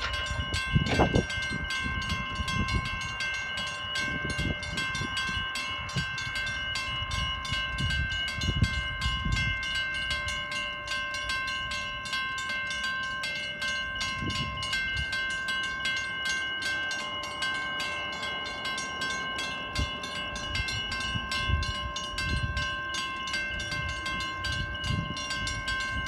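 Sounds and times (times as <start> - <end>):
level-crossing warning bell ringing: 0.0 - 26.0.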